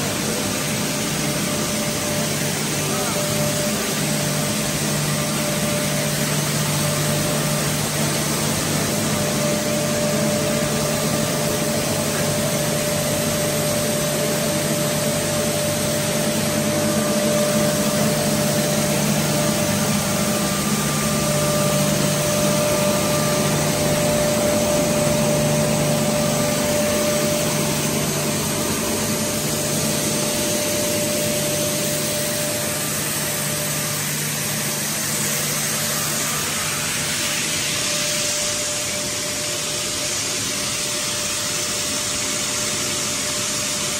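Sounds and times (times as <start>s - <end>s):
continuous machine hiss: 0.0s - 43.9s
pellet cutter whine: 0.0s - 43.9s.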